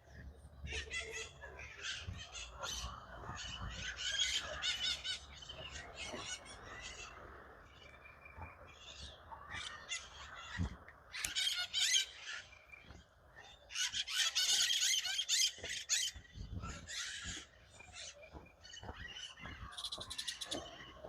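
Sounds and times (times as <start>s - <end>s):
birds calling rapidly: 0.0s - 21.0s.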